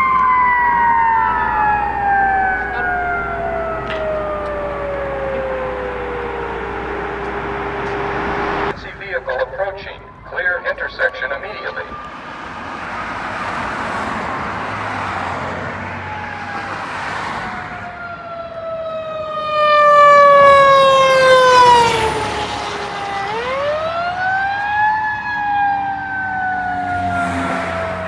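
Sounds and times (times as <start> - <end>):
fire engine siren wailing: 0.0 - 28.0
passing car traffic: 0.0 - 28.0.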